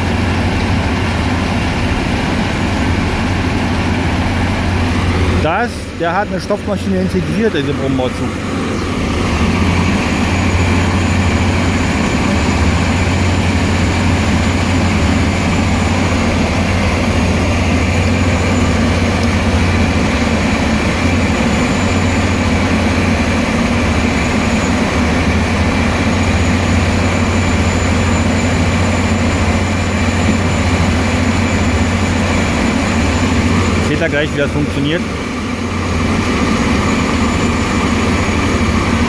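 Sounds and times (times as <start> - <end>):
heavy machinery and diesel engines: 0.0 - 39.0.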